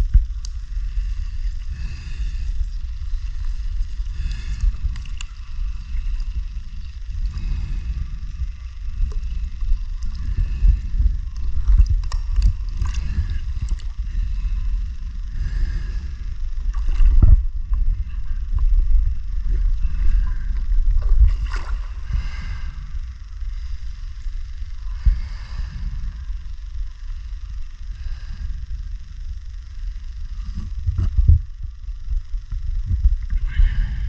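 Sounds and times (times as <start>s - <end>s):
low underwater rumble: 0.0s - 34.0s.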